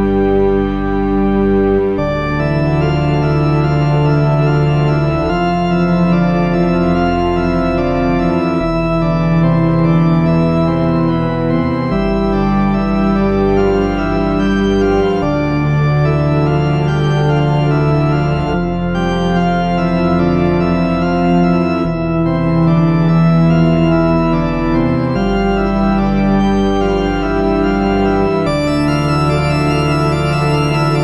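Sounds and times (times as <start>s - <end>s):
sustained keyboard chords: 0.0s - 31.0s.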